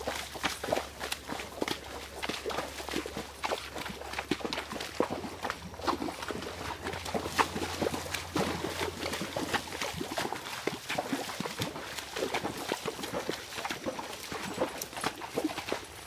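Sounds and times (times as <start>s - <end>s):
hooves splashing in water and mud: 0.0s - 16.0s.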